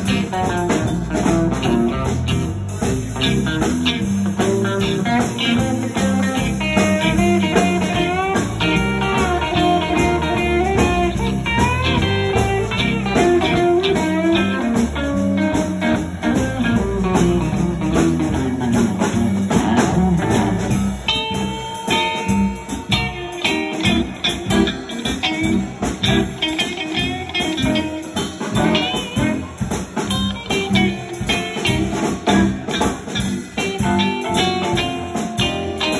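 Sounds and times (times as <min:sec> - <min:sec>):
bass and drums: 0:00.0 - 0:35.9
electric guitar lead: 0:00.0 - 0:35.9.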